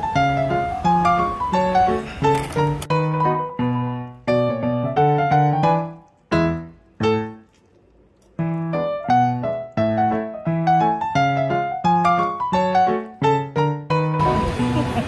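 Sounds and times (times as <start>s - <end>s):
gentle keyboard melody: 0.0s - 15.0s.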